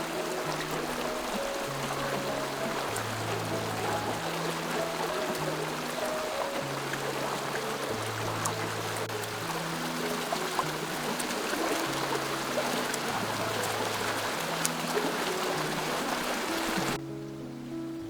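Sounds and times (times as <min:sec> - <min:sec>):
stream water rushing: 0:00.0 - 0:17.6
soft background music: 0:00.0 - 0:18.0.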